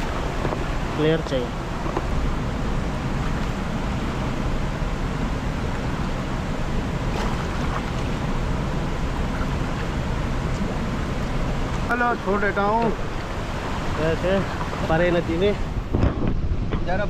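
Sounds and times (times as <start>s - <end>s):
fast-flowing river rushing: 0.0s - 15.9s.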